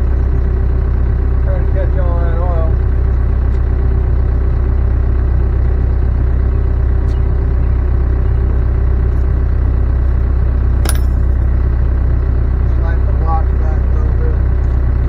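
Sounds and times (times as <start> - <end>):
machine power unit humming: 0.0 - 15.0.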